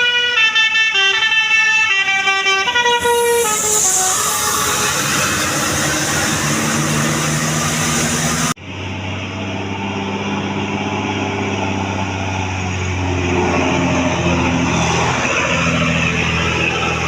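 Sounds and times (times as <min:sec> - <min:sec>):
bus engine running: 0:01.0 - 0:17.0
low engine drone: 0:02.7 - 0:17.0.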